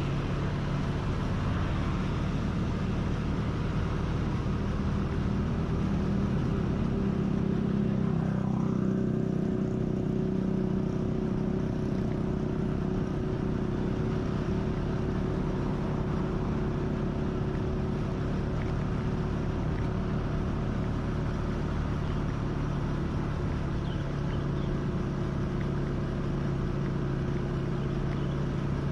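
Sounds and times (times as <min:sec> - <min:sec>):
road noise: 0:00.0 - 0:28.9
vehicle engine running: 0:00.0 - 0:28.9.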